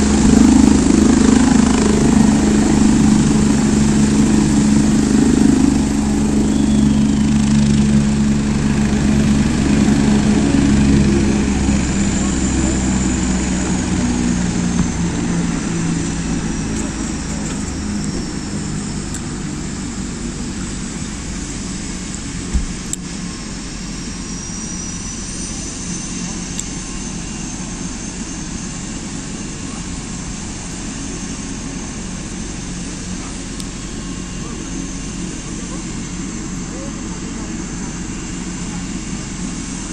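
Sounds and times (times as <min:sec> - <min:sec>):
helicopter turbine and rotor running: 0:00.0 - 0:39.9.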